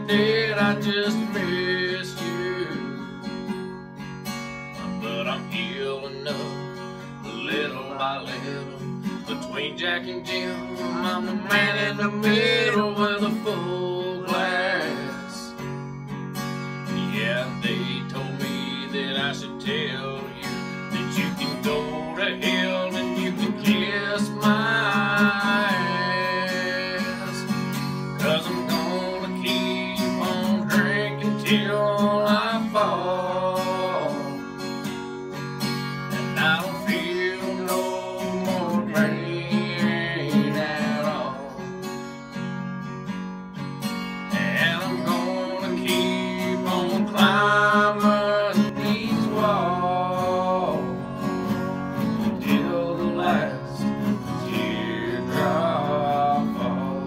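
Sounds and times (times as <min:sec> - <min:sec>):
man singing: 0:00.0 - 0:03.3, 0:04.8 - 0:15.6, 0:16.9 - 0:34.6, 0:36.2 - 0:41.8, 0:44.3 - 0:57.0
acoustic guitar strumming: 0:00.0 - 0:57.0.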